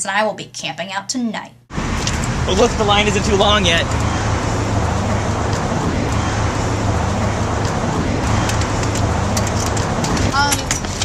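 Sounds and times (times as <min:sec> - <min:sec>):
city street traffic: 0:01.7 - 0:11.0
constant low rumble: 0:01.7 - 0:11.0.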